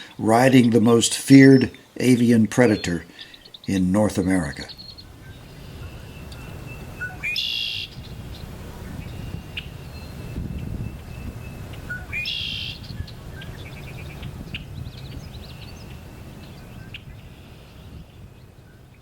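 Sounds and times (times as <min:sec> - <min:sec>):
blackbird song with buzzy trill: 0:00.0 - 0:19.0
bird chips and calls: 0:01.4 - 0:19.0.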